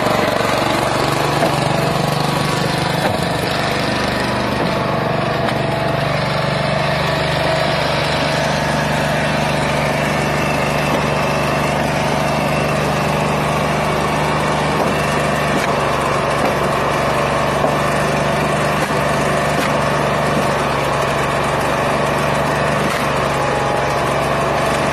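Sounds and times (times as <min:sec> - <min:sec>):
small engine running: 0:00.0 - 0:24.9.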